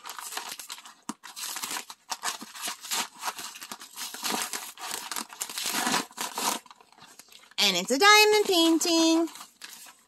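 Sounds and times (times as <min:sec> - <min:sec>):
paper mailer bag tearing: 0:00.0 - 0:10.0
stiff paper crinkling: 0:00.0 - 0:10.0.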